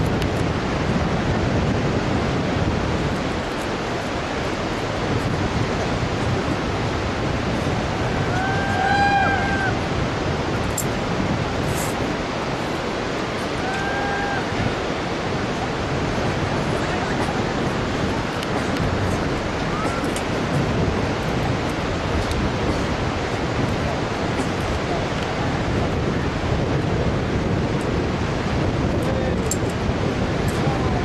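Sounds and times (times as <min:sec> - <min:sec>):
river rapids rushing: 0:00.0 - 0:31.0
wind on microphone: 0:00.0 - 0:31.0.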